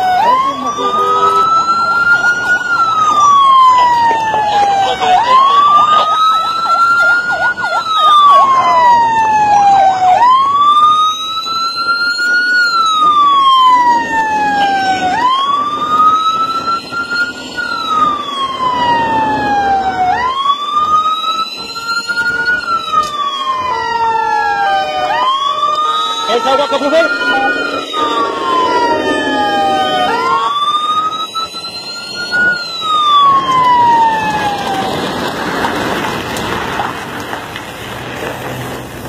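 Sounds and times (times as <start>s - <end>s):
yelping siren warble: 0.0s - 34.9s
police siren wailing: 0.0s - 37.7s.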